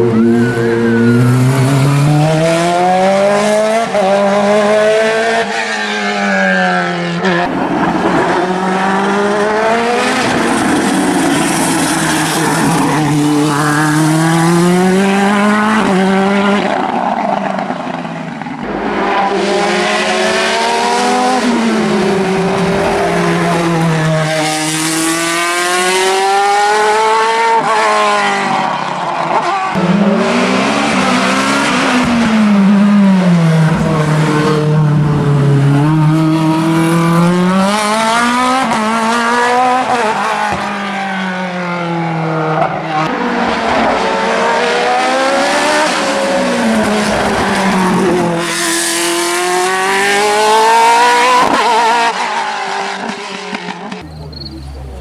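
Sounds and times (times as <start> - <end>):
race car engines revving through gears: 0.0 - 55.0.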